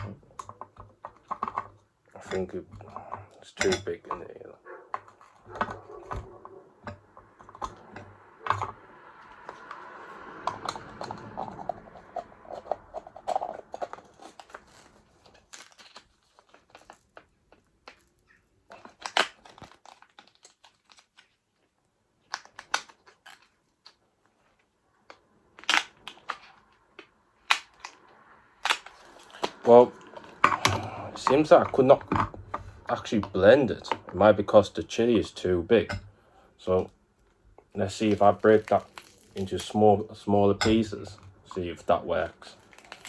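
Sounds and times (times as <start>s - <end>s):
plastic scraping and rattling: 0.0s - 43.0s.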